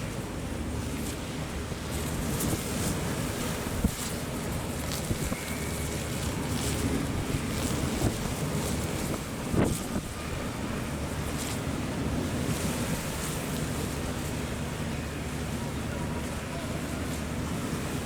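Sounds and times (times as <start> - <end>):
rough sea waves: 0.0 - 18.0
wind buffeting microphone: 0.2 - 18.0.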